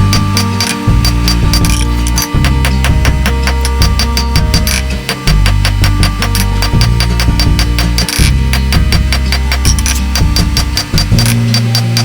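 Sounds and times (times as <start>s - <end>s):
background music with steady beat: 0.0s - 12.0s
held bass notes: 0.0s - 12.0s.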